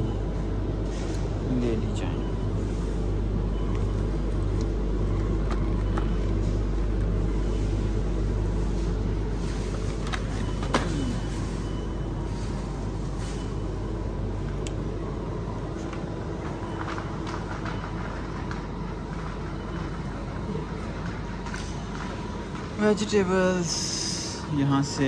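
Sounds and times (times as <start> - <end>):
supermarket background rumble: 0.0 - 25.0.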